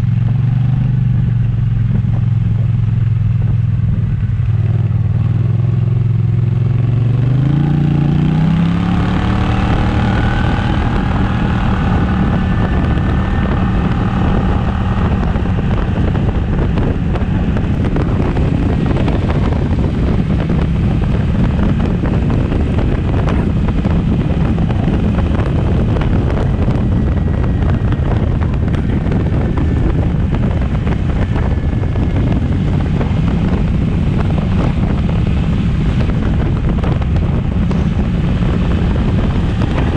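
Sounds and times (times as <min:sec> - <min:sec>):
wind noise: 0:00.0 - 0:39.9
scooter engine accelerating: 0:04.1 - 0:39.9.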